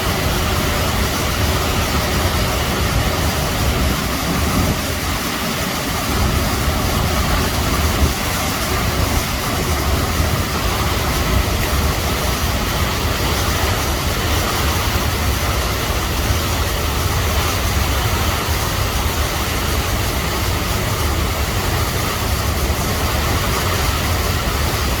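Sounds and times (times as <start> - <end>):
flooded river roaring: 0.0 - 25.0.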